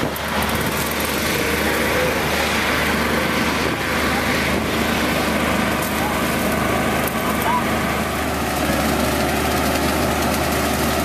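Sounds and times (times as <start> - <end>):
diesel engines humming: 0.0 - 11.0
loud even mechanical noise: 0.0 - 11.0.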